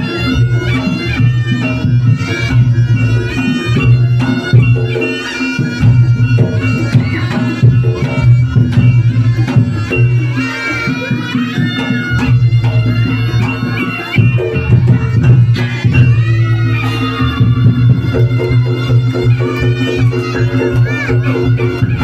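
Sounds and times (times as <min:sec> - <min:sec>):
double-reed shawm melody: 0:00.0 - 0:22.0
steady drumming: 0:00.0 - 0:22.0.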